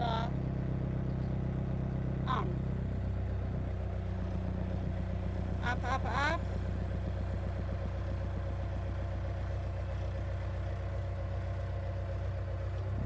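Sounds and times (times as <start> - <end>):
loader engine running: 0.0 - 13.0.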